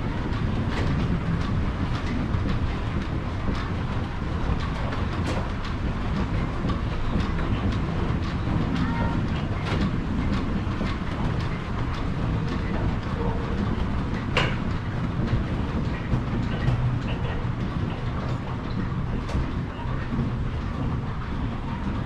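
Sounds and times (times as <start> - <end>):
mill machinery clattering: 0.0 - 22.0.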